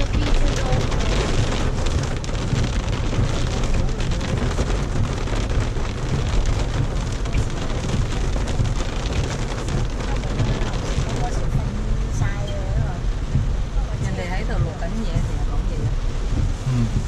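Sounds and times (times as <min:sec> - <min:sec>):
low rumble: 0:00.0 - 0:17.0
rain pattering: 0:00.0 - 0:17.0.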